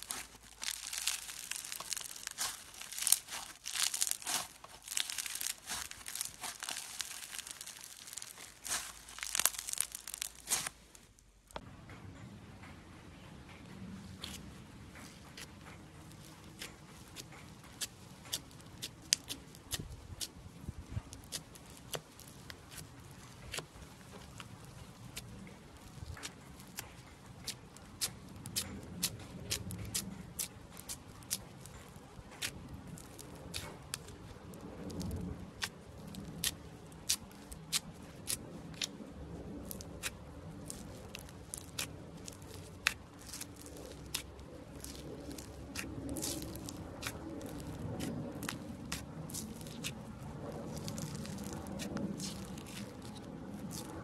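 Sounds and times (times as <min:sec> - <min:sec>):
slime popping and crackling: 0:00.0 - 0:11.2, 0:16.1 - 0:54.0
soft low slime squishes: 0:00.0 - 0:11.7, 0:12.3 - 0:54.0.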